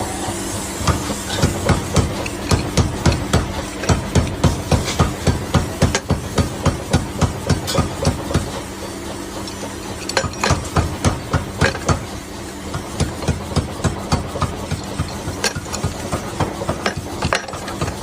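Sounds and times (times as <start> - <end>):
steady machine hum: 0.0 - 18.0
rapid hammer-like knocks: 0.9 - 8.6, 10.2 - 12.1, 12.7 - 18.0.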